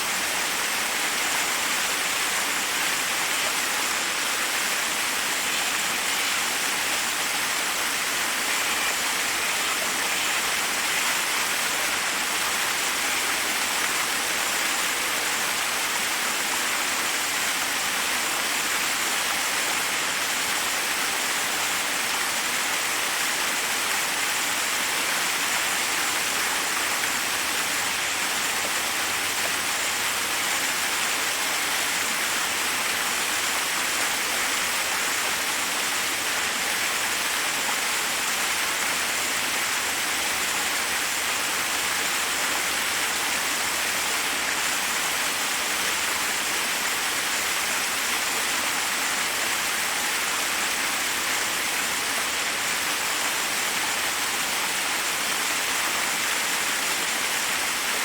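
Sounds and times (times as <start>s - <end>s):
waterfall cascading over rocks: 0.0s - 58.0s.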